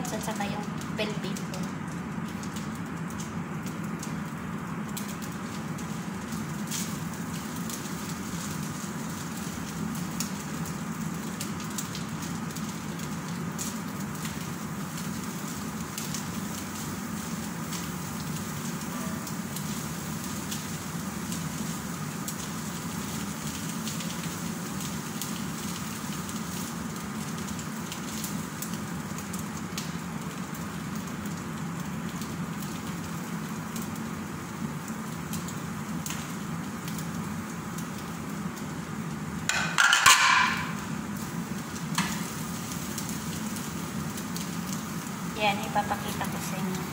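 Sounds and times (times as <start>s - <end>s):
food sizzling in a pan: 0.0s - 46.9s.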